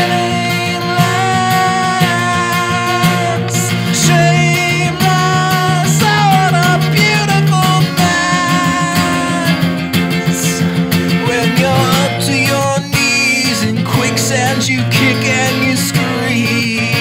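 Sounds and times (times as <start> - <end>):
guitar-led song: 0.0 - 17.0.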